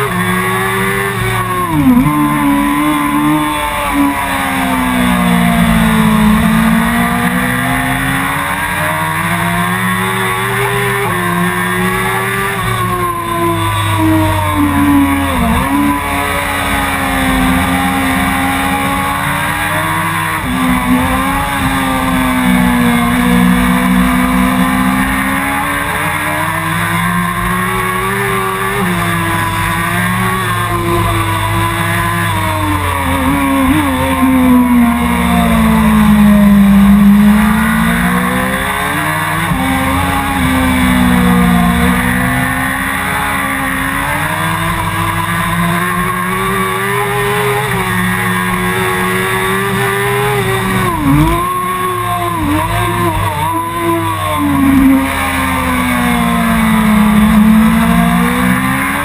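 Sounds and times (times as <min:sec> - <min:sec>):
motorcycle engine at race pace: 0:00.0 - 0:59.0.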